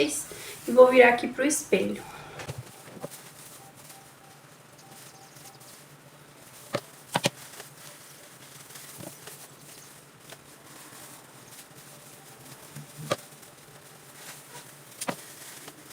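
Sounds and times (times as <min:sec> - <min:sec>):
faint steady background noise: 0:00.0 - 0:15.9.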